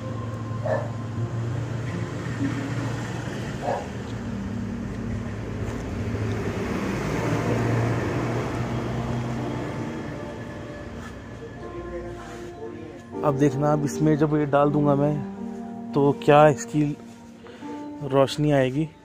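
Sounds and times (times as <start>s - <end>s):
road traffic noise: 0.0s - 19.0s
vehicle engine humming: 0.0s - 19.0s.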